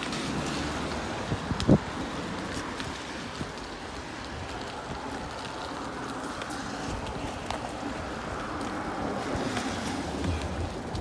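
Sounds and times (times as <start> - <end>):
bicycle tyres on wet pavement: 0.0 - 11.0.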